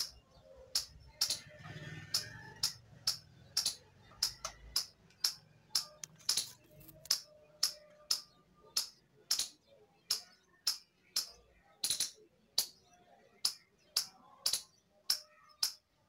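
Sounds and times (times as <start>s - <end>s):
squirrel chipping calls: 0.0s - 16.0s.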